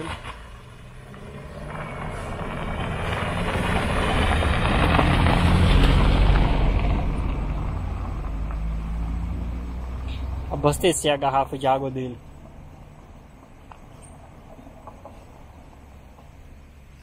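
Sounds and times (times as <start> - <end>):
car driving past on dirt road: 0.0 - 16.7.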